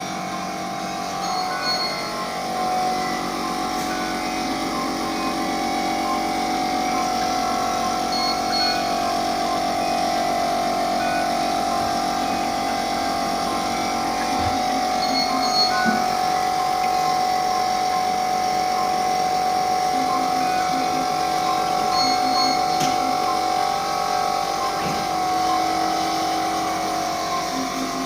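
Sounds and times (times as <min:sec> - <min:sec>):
ventilator whine: 0:00.0 - 0:28.0.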